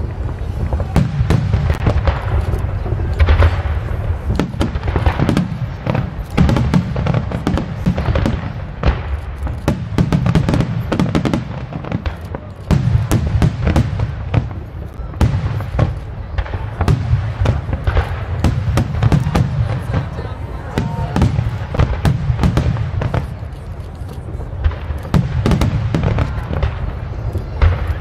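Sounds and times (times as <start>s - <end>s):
continuous low rumble: 0.0s - 28.0s
fireworks booms and cracks: 0.0s - 28.0s.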